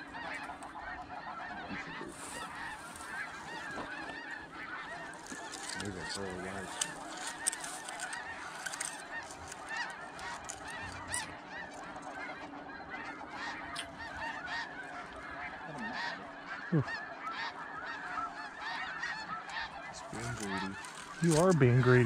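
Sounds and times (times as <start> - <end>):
geese honking chorus: 0.0 - 22.0.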